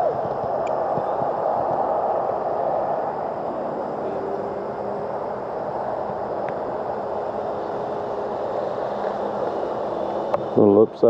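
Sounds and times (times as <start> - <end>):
model airplane motor buzzing: 0.0 - 11.0.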